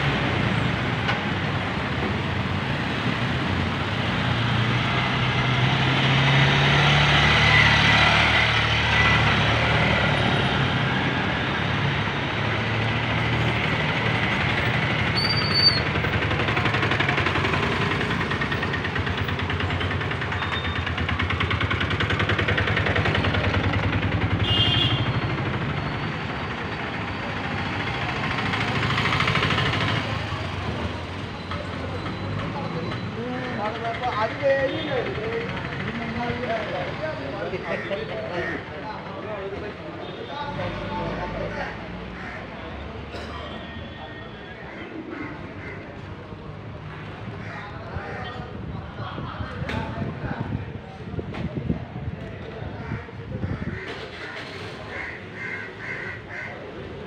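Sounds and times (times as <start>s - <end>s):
vehicle engines passing: 0.0s - 57.0s.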